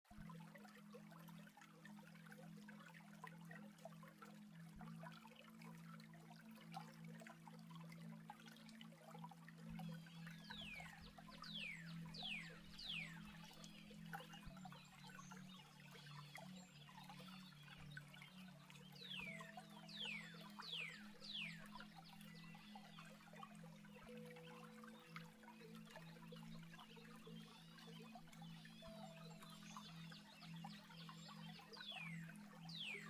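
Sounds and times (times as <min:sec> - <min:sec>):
stream trickling: 0:00.1 - 0:33.0.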